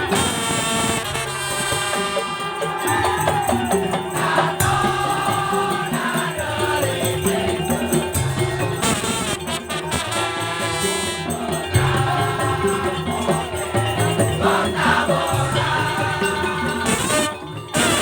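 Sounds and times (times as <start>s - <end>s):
percussion band music: 0.0s - 18.0s.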